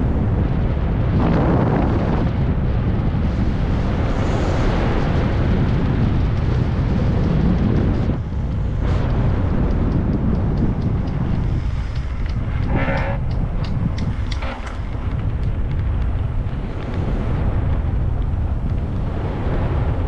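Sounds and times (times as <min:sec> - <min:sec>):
bicycle tyres rumbling on gravel: 0:00.0 - 0:20.0
wind buffeting microphone: 0:00.0 - 0:20.0.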